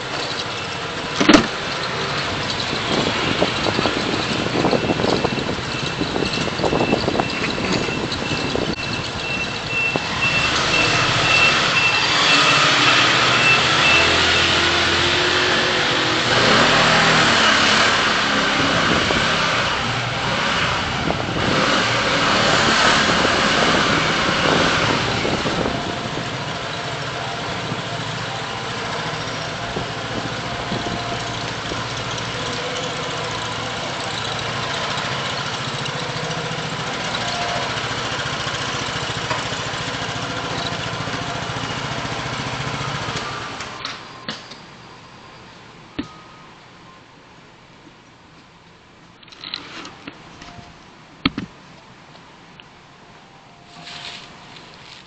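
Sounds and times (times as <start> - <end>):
car engine and road noise: 0.0 - 55.0
vehicles passing: 0.0 - 55.0.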